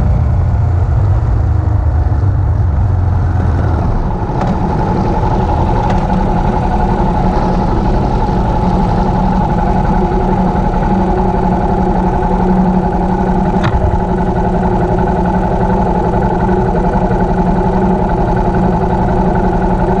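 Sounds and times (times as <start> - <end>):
motorcycle engine running steadily: 0.0 - 20.0.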